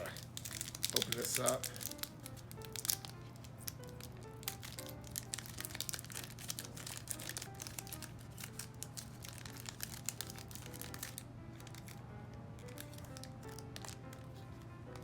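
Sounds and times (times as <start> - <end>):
foil wrapper crinkling: 0.0 - 12.0, 12.6 - 15.0
soft background music: 0.0 - 15.0.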